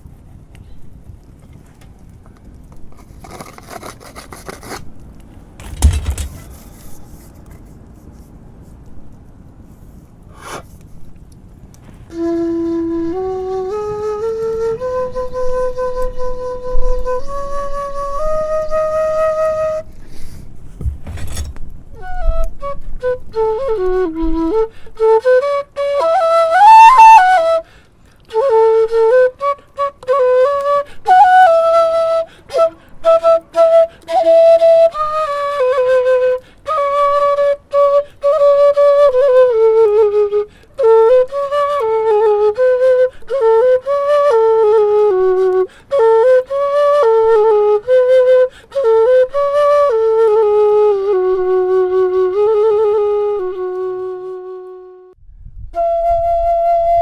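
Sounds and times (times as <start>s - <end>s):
bamboo flute melody: 5.6s - 7.8s, 11.8s - 20.5s, 21.2s - 57.0s.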